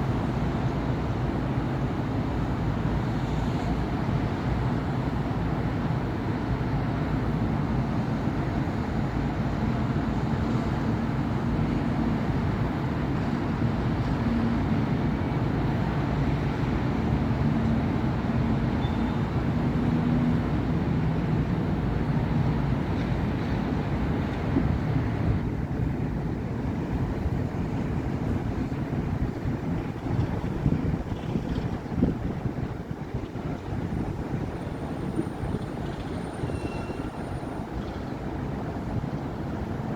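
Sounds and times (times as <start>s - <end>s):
street traffic: 0.0s - 39.9s.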